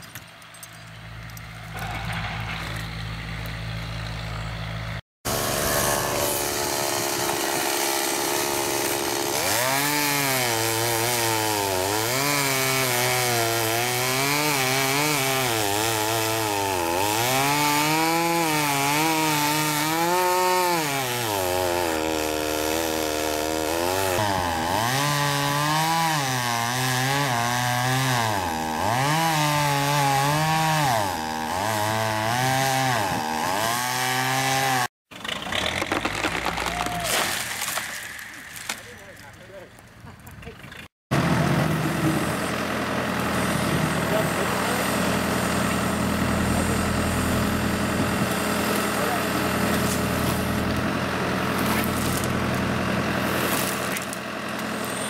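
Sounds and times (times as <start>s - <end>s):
chainsaw cutting wood: 1.2s - 39.4s, 41.1s - 55.0s.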